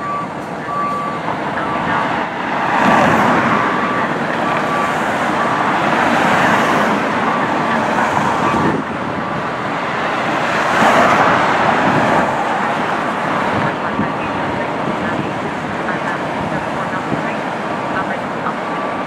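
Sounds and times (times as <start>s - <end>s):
reversing alarm beeping: 0.0s - 9.8s, 12.6s - 19.0s
diesel engine running: 0.0s - 19.0s.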